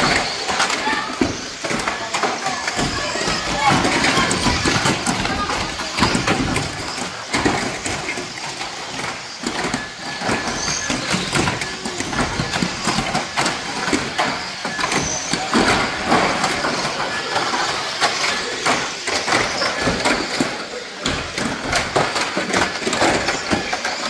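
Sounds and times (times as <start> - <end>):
plastic cars crashing: 0.0 - 24.0
radio-controlled cars racing: 0.0 - 24.0
voices in a hall: 0.0 - 24.0.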